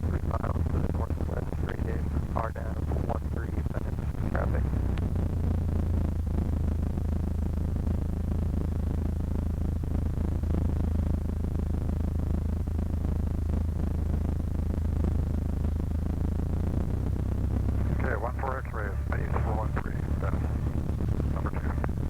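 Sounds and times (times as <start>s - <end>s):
small plane engine droning: 0.0s - 22.0s.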